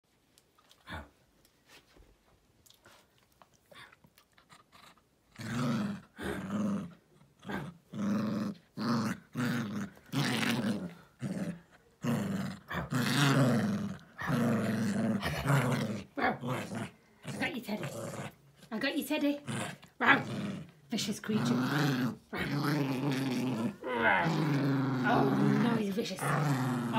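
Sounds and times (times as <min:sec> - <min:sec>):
small dog play-growling: 0:03.6 - 0:26.9.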